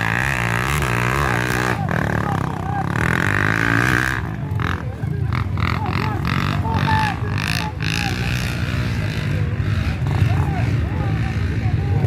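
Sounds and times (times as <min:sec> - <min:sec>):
dirt bike engines revving: 0:00.0 - 0:12.0
people's voices: 0:00.0 - 0:12.0.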